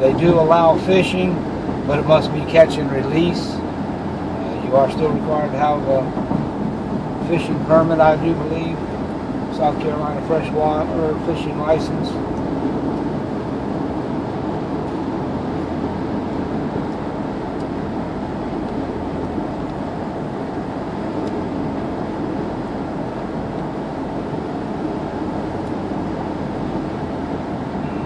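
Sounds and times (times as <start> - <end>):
car engine cruising: 0.0 - 28.0
tyres on asphalt: 0.0 - 28.0.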